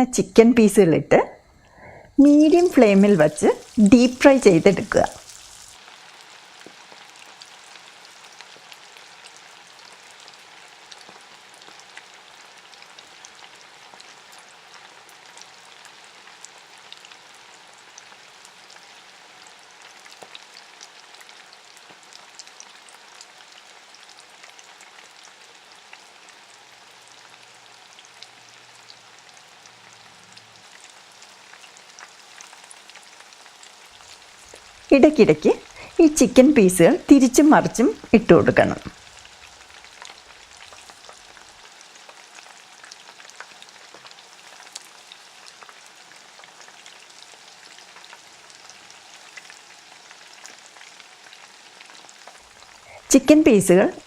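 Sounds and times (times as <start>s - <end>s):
food deep-frying in oil: 1.6s - 54.0s.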